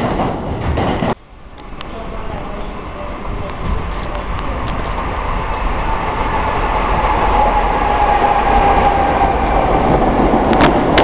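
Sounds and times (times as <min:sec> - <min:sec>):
subway train approaching: 0:00.0 - 0:11.0
train whine dropping in pitch: 0:01.2 - 0:11.0.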